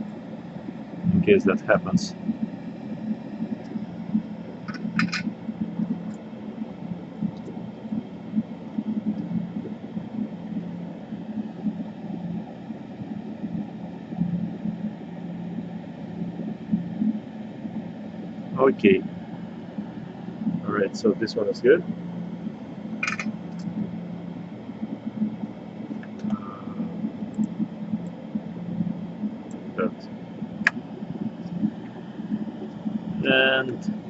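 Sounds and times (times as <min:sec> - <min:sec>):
fan humming: 0:00.0 - 0:34.0.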